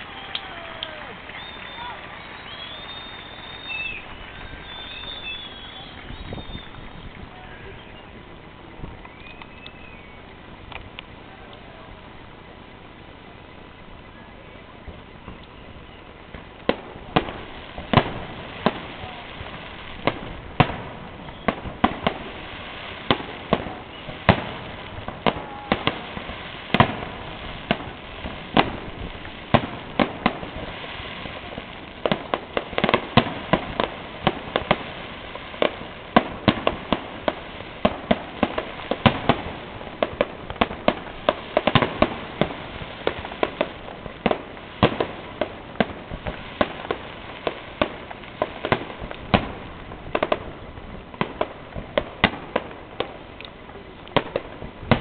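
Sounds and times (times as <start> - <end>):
fireworks bursting with sharp bangs: 0.0 - 55.0
fireworks crackling: 0.0 - 55.0.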